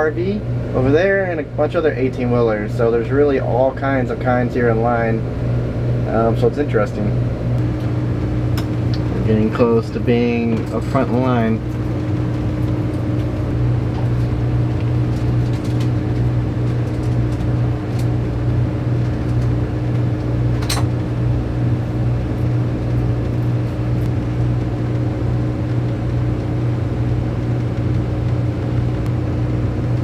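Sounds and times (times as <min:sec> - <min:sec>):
engine idling low hum: 0:00.0 - 0:30.0.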